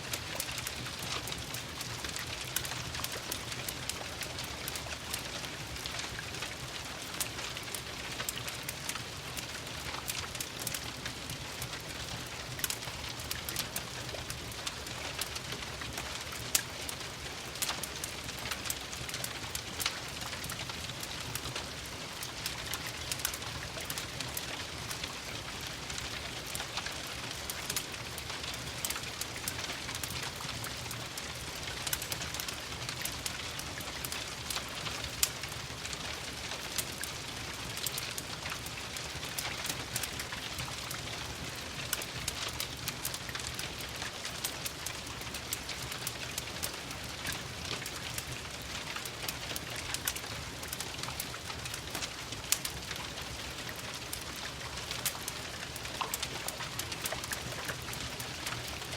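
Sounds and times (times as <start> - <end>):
fireplace crackling and popping: 0.0 - 58.9
steady rain: 0.0 - 58.9.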